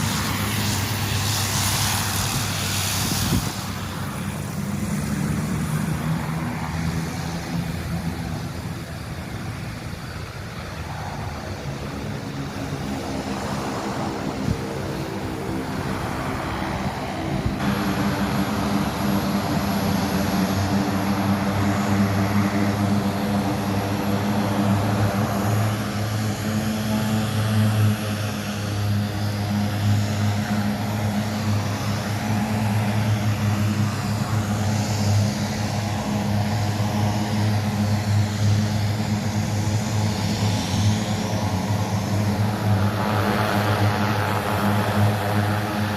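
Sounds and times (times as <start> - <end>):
propeller aircraft engines droning: 0.0 - 45.9.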